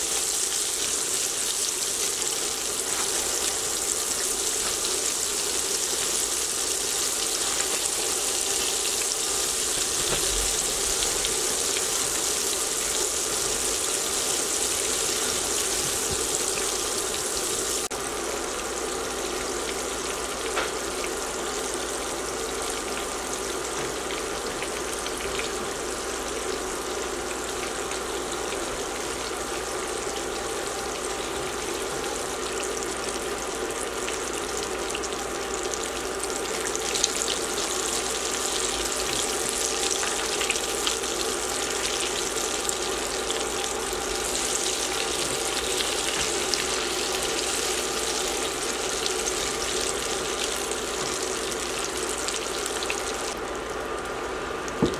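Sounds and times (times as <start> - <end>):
fish deep-frying in oil: 0.0 - 54.9.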